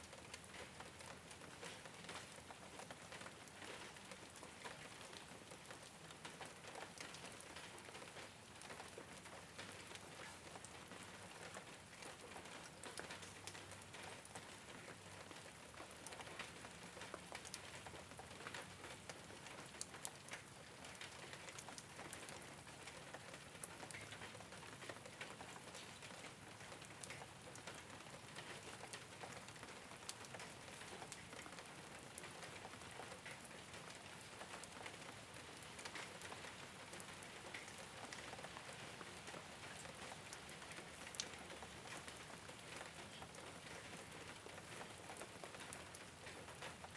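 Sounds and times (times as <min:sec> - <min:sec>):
rain on a roof: 0:00.0 - 0:46.9.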